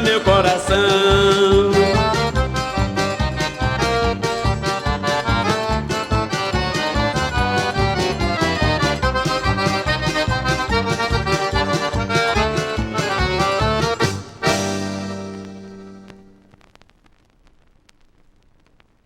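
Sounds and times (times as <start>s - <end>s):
driving beat: 0.0s - 16.3s
accordion melody: 0.0s - 16.4s.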